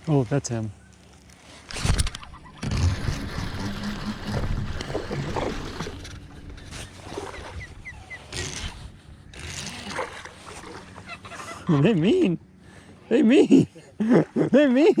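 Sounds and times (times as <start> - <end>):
boat-side commotion: 0.0 - 15.0.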